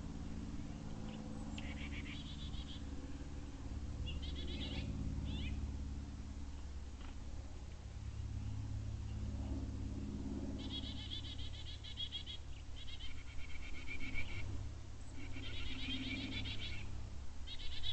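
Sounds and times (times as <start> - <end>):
low steady rumble: 0.0 - 17.9.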